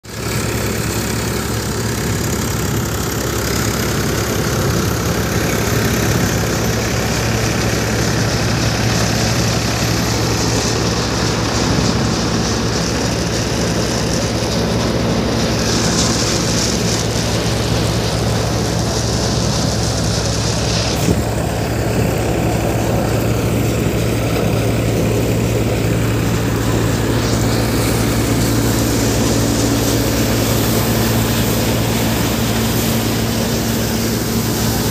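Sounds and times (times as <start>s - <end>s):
low engine hum: 0.1s - 34.9s
thresher machine mechanical drone: 0.1s - 34.9s.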